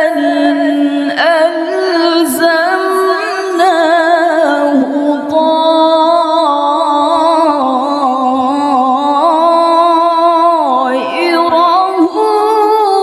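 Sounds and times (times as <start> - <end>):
woman reciting melodically: 0.0 - 13.0.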